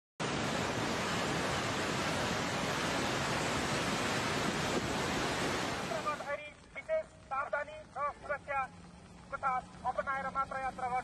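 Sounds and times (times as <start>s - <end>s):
fast-flowing floodwater rushing: 0.2s - 11.0s.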